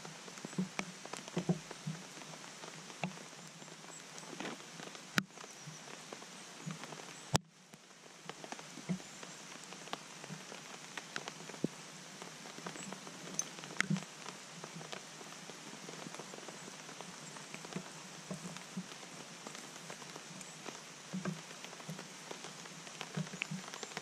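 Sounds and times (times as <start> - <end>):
raindrops ticking: 0.0 - 24.0
steady rain: 0.0 - 24.0.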